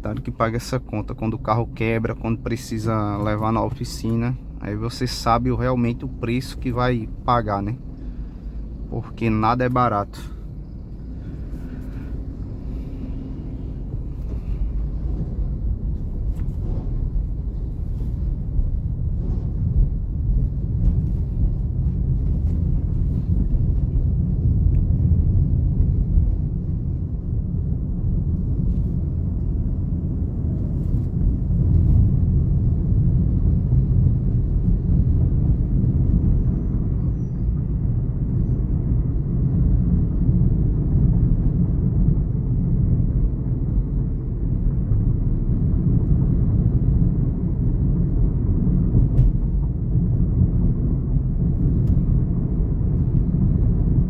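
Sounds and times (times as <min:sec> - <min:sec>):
road and tyre noise in car cabin: 0:00.0 - 0:54.0.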